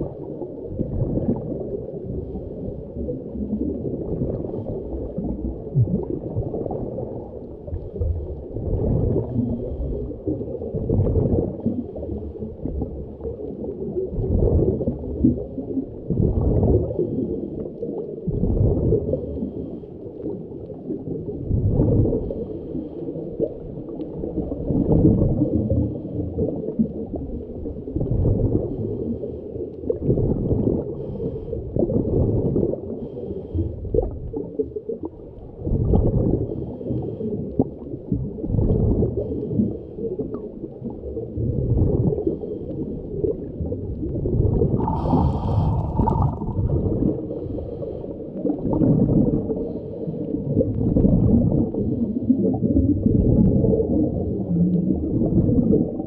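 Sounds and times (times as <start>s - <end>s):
underwater breath bubbling: 0.0s - 56.0s.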